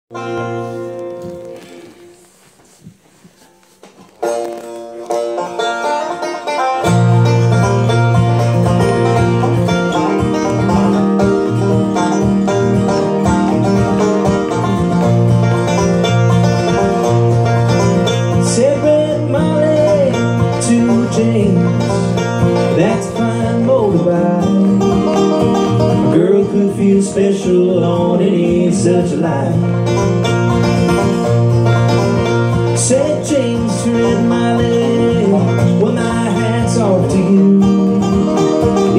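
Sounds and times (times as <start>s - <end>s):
acoustic guitar strumming: 0.1s - 38.9s
banjo picking: 0.1s - 38.9s
lower strummed accompaniment: 0.1s - 38.9s.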